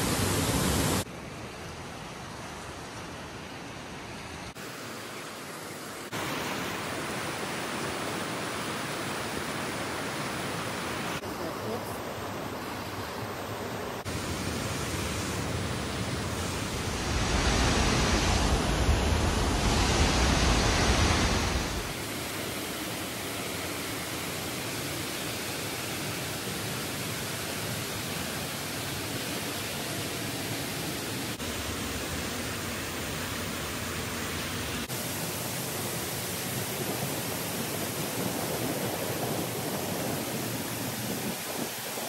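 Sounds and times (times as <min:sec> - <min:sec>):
water rushing in rocky creek: 0:03.2 - 0:42.0.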